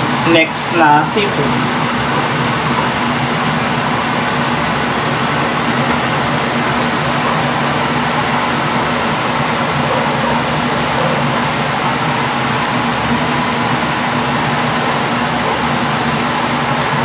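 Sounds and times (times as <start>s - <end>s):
low even hum: 0.0s - 17.0s.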